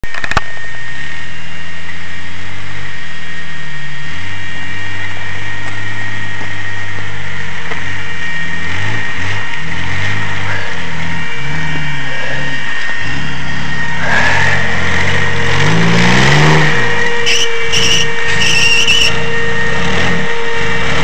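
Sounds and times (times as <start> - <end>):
off-road engine revving: 1.7 - 21.0.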